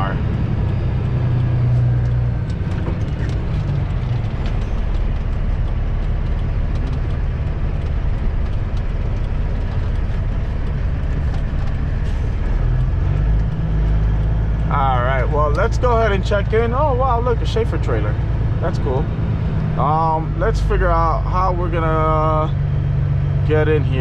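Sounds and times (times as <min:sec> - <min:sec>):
diesel truck engine drone: 0:00.0 - 0:24.0.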